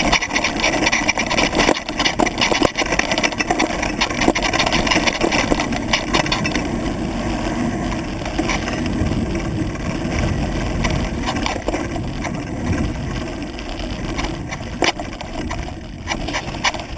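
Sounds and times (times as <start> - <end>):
bike knocks and rattles: 0.0 - 16.9
tyre rumble: 0.0 - 16.9
wind: 0.0 - 16.9.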